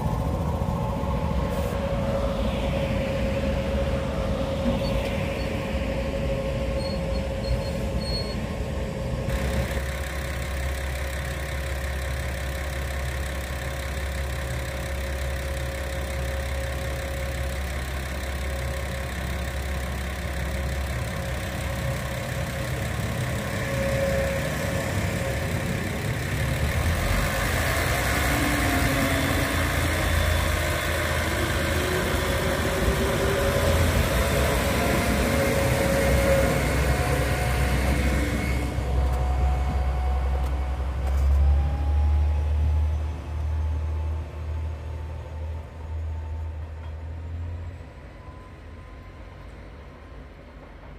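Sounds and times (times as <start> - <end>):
electric train running hum and whine: 0.0 - 50.9.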